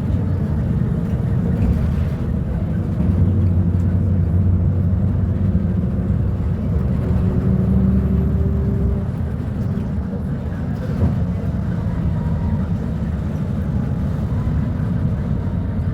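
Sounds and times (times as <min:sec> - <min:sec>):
bus diesel engine droning: 0:00.0 - 0:15.9.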